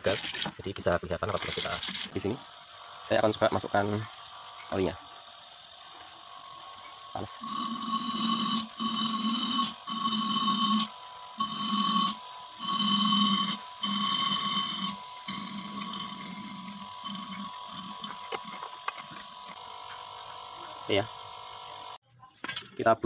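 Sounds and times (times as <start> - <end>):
air conditioner compressor humming: 2.2 - 22.0.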